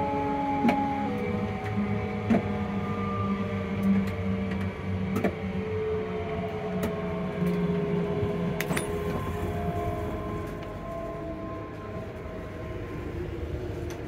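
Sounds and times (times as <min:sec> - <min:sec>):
electric train motor whine: 0:00.0 - 0:14.0.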